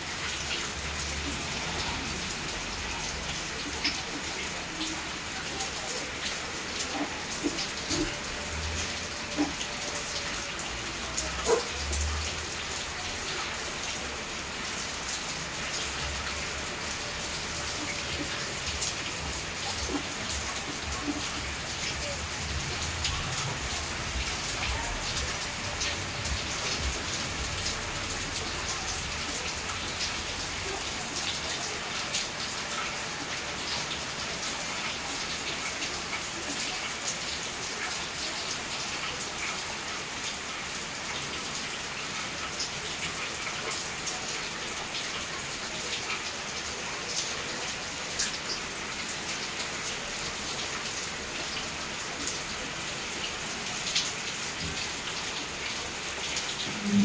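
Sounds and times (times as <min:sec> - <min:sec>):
rain hiss: 0:00.0 - 0:57.0
raindrops ticking close by: 0:00.0 - 0:57.0.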